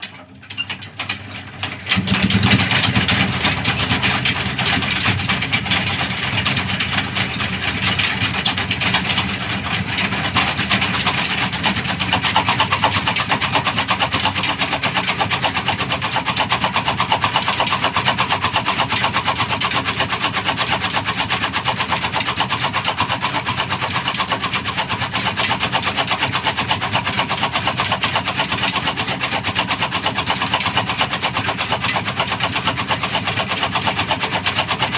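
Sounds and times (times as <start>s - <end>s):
stationary diesel engine running: 0.1s - 34.9s.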